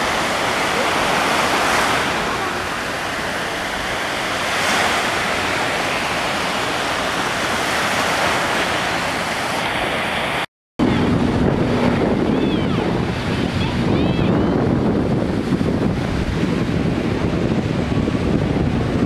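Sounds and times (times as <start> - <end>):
surf washing up a beach: 0.0 - 19.0.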